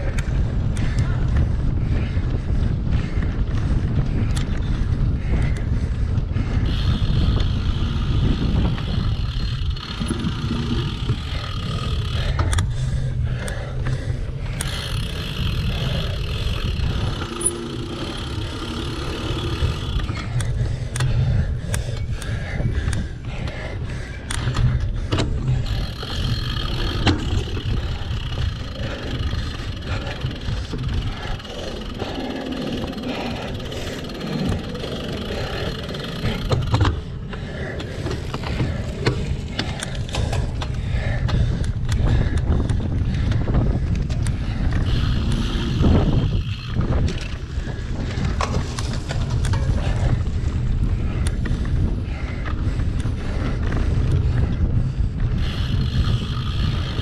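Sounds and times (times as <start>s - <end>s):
bike knocks and rattles: 0.0s - 57.0s
wind rumble on microphone: 0.0s - 57.0s.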